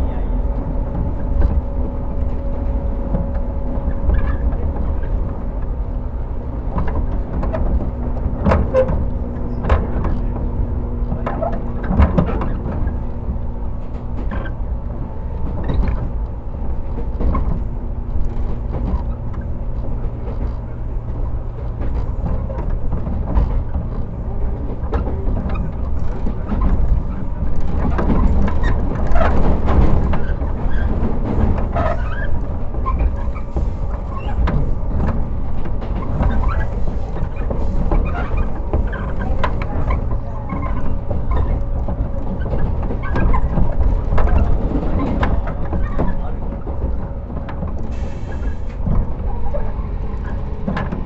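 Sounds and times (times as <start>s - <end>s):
low train rumble: 0.0s - 51.0s
traction motors humming: 0.0s - 51.0s
wheels clacking over rail joints: 0.0s - 51.0s.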